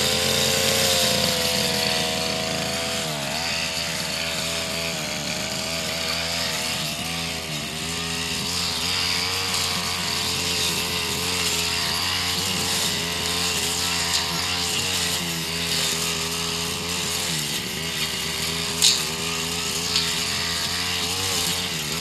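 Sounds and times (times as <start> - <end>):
brush cutter engine cutting grass: 0.0 - 22.0.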